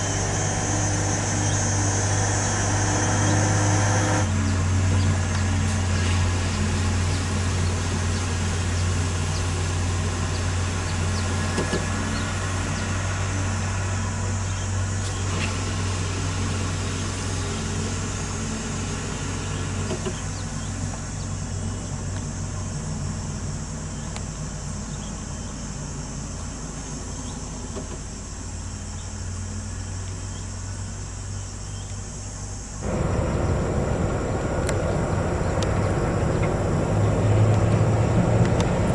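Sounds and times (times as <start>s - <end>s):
rough vehicle noise: 0.0s - 38.9s
truck diesel engine droning: 0.0s - 38.9s.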